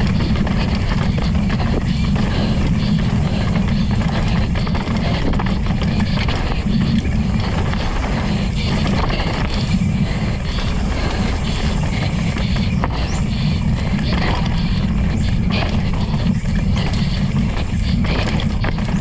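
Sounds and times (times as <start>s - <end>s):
bike rattling: 0.0s - 19.0s
tyres on dirt: 0.0s - 19.0s
wind on microphone: 0.0s - 19.0s.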